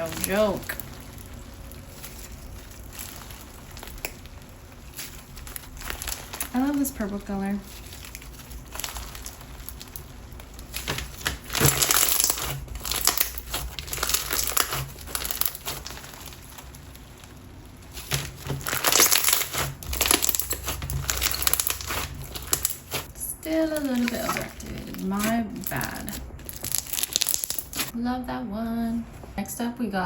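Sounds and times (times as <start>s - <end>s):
slime crunching and crackling: 0.0s - 28.0s.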